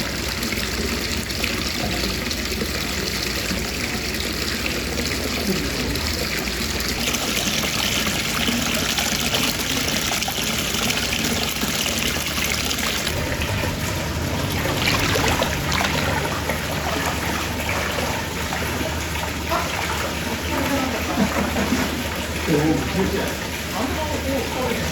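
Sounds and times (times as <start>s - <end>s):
water pouring into a basin: 0.0s - 24.9s.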